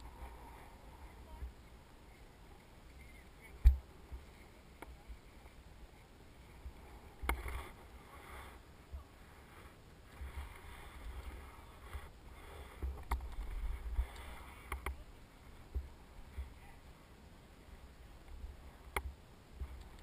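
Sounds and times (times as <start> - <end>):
rustling: 0.0 - 16.8.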